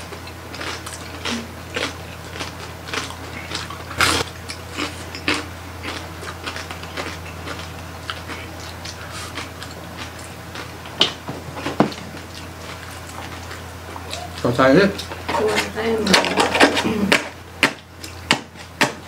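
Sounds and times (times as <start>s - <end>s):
chewing crunches and smacks: 0.0s - 15.3s, 17.1s - 19.0s.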